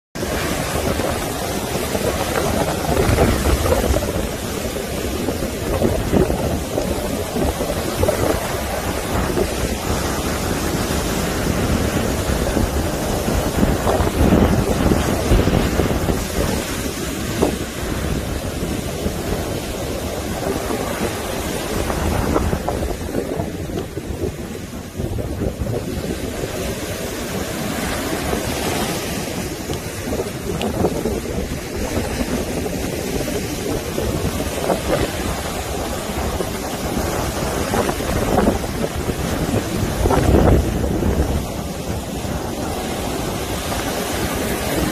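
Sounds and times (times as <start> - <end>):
surf washing up a beach: 0.2 - 44.9
wind buffeting microphone: 0.2 - 44.9.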